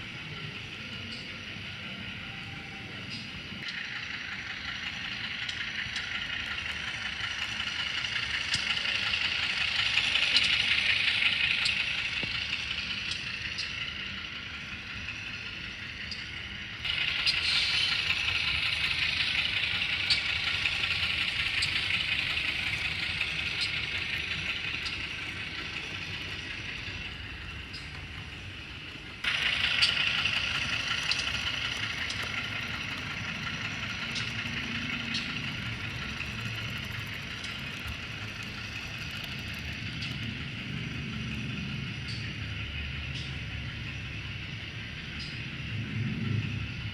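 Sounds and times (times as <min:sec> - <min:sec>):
tinny diesel engine sound from speaker: 0:00.0 - 0:46.9.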